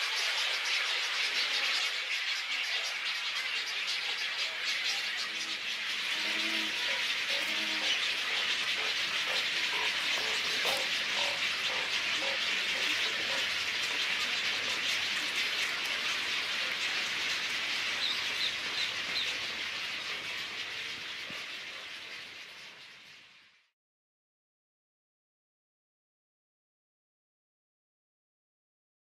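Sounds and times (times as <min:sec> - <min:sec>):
waterbird colony calls: 0:00.0 - 0:23.5.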